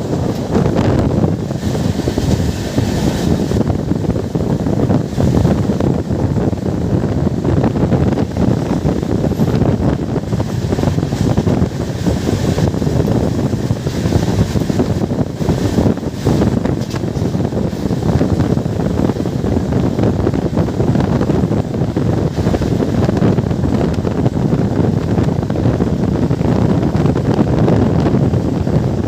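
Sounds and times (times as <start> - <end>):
moving train rumble: 0.0 - 29.0
wind buffeting microphone: 0.0 - 29.0.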